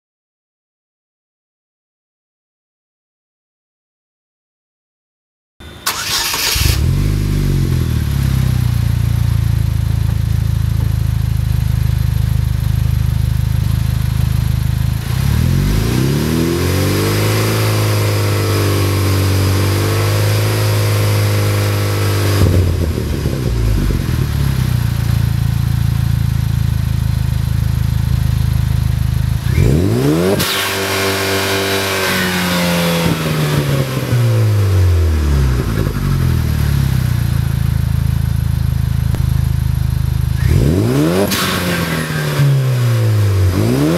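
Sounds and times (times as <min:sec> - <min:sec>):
car engine idling and revving: 0:05.6 - 0:43.9.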